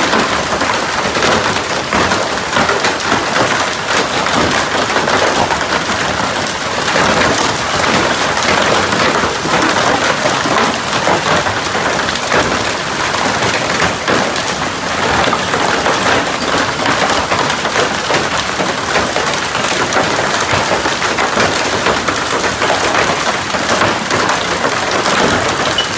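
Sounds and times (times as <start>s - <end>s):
heavy hail clattering: 0.0s - 25.9s.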